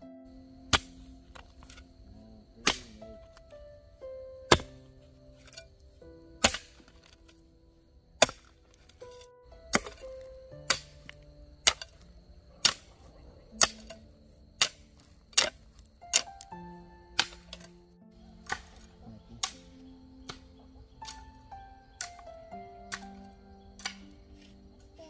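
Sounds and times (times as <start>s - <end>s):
hoe chopping into dry soil: 0.7s - 1.9s, 2.6s - 3.5s, 4.5s - 5.8s, 6.4s - 7.5s, 8.2s - 24.8s.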